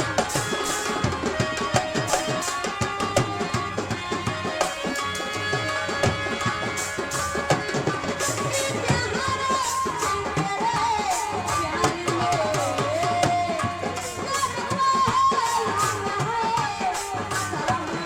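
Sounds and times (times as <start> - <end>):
fast hand drum playing: 0.0 - 18.0.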